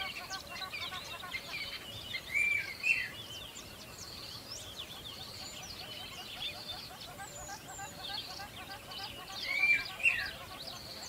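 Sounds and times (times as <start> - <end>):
loud bird calls: 0.0 - 11.0
small birds chirping: 0.0 - 11.0.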